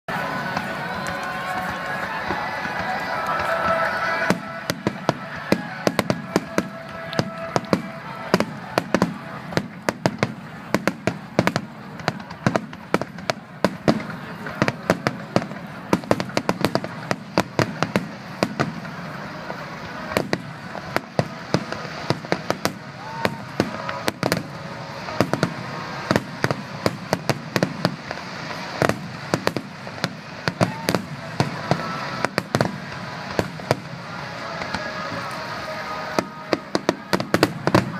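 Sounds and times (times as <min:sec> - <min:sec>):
fireworks bangs and crackles: 0:00.1 - 0:37.9.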